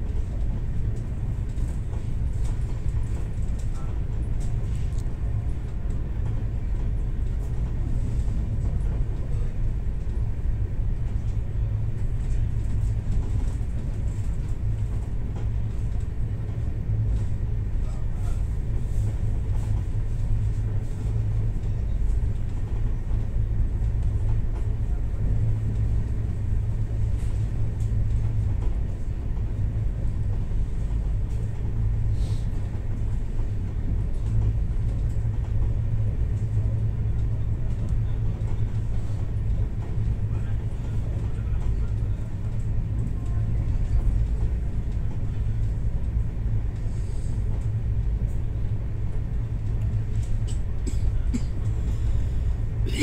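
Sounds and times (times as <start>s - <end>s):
train interior rumble: 0.0s - 53.0s.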